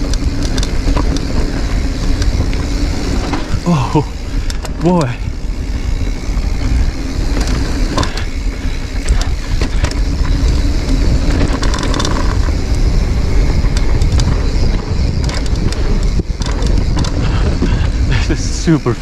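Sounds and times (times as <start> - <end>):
bike rattling and knocking: 0.0 - 19.0
tyres rolling over dirt and rock: 0.0 - 19.0
wind rumbling on microphone: 0.0 - 19.0.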